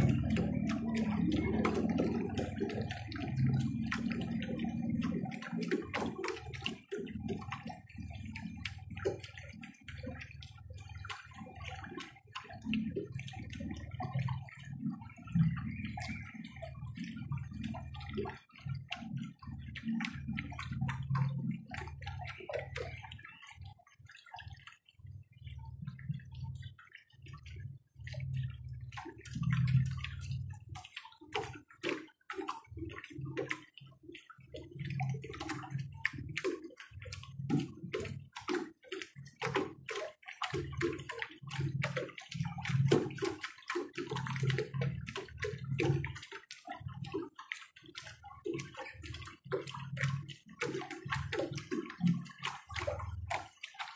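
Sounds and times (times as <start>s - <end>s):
drips and splashes: 0.0s - 53.9s
water lapping against boat hull: 0.0s - 53.9s.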